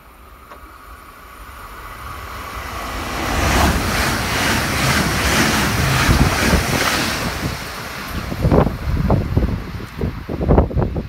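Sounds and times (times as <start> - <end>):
passenger train passing at speed: 0.0 - 11.0.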